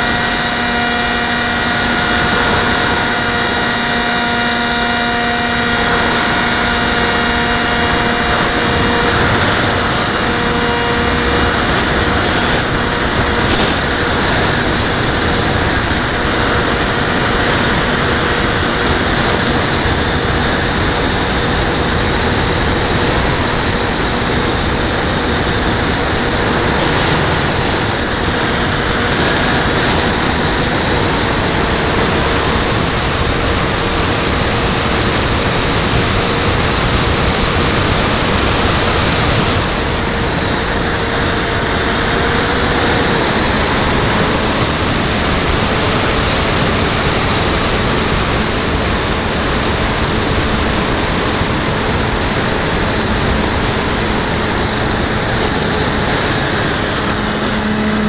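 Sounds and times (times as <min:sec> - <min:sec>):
model plane motor whine: 0:00.0 - 0:58.0.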